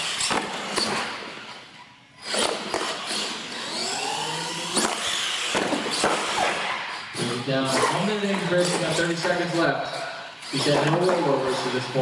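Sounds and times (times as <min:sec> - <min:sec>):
toy truck motor and tyre noise: 0:00.0 - 0:12.0.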